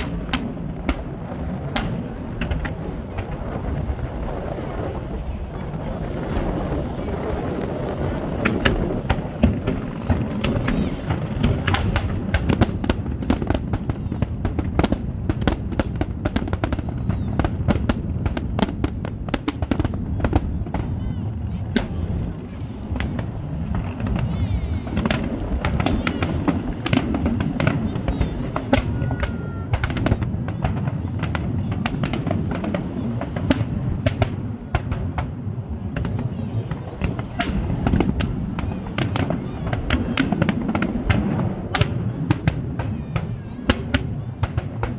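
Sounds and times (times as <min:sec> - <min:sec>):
fireworks cracking and popping: 0:00.0 - 0:44.9
low booming of fireworks: 0:00.0 - 0:44.9.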